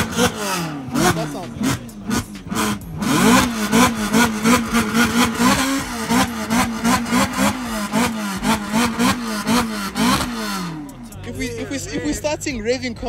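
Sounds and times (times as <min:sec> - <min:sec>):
car engine bouncing off rev limiter: 0:00.0 - 0:11.1
exhaust pops: 0:00.0 - 0:11.1.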